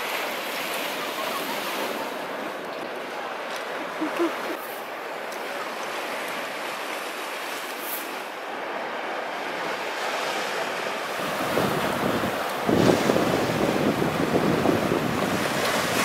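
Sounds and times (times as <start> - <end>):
sea waves breaking on rocks: 0.0 - 16.0.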